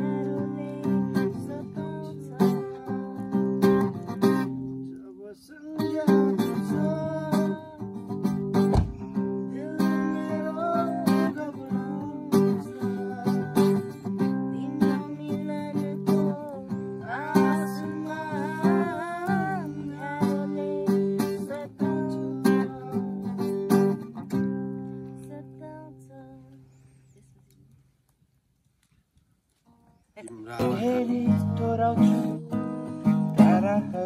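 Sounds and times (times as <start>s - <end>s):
acoustic guitar strumming chords: 0.0s - 26.1s, 30.4s - 34.0s.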